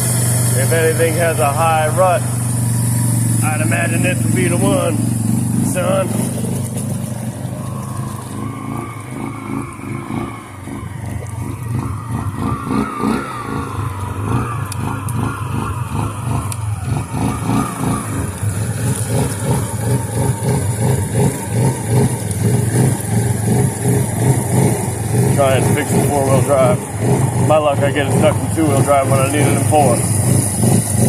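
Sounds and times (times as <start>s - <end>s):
quad bike engine revving: 0.0s - 31.0s.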